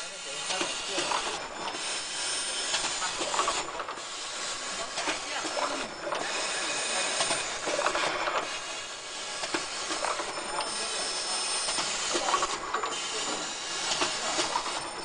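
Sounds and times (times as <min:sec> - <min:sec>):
packing machine hissing: 0:00.0 - 0:15.0.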